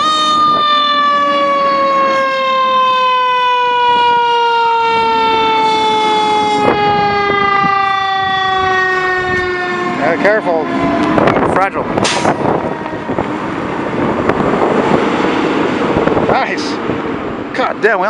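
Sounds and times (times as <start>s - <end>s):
fire engine siren: 0.0s - 17.4s.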